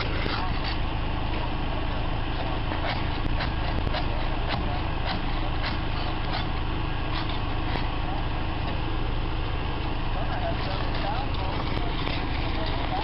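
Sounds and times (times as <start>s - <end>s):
pressure washer engine drone: 0.0s - 13.0s.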